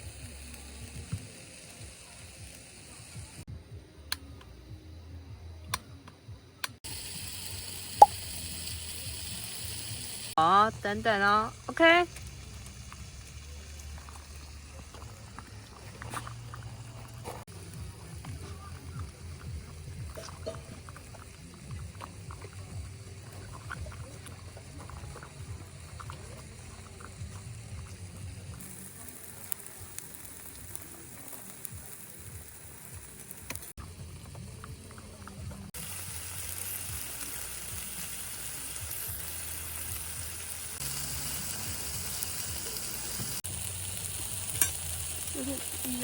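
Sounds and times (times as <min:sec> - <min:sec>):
food sizzling in a pan: 0:00.0 - 0:03.5, 0:06.8 - 0:46.0.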